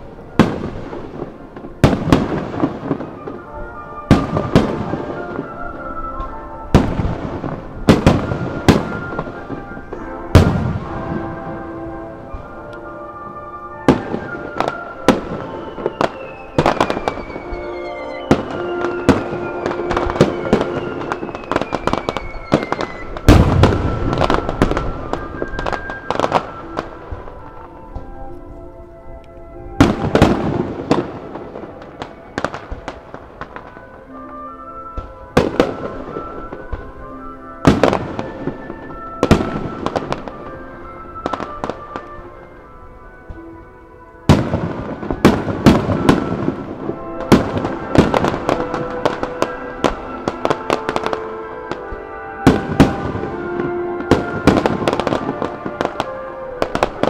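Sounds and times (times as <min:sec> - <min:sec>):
fireworks bursting and crackling: 0:00.0 - 0:57.0
music playing: 0:00.0 - 0:57.0.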